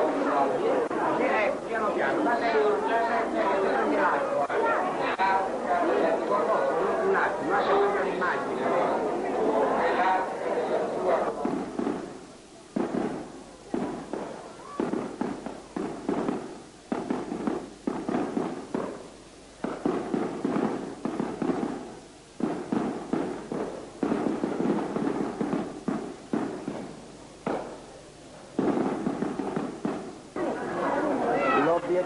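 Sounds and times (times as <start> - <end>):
fireworks banging: 0.0 - 32.0.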